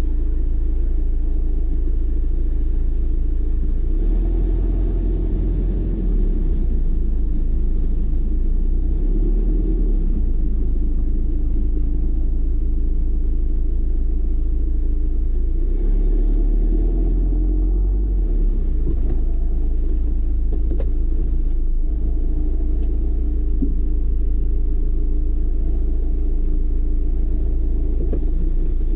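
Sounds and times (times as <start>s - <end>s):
car interior engine and tyre rumble: 0.0s - 28.9s.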